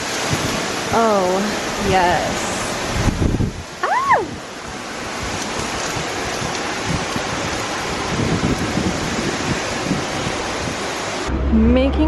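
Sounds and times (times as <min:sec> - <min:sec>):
waterfall rushing: 0:00.0 - 0:11.4
wind buffeting microphone: 0:00.0 - 0:12.0.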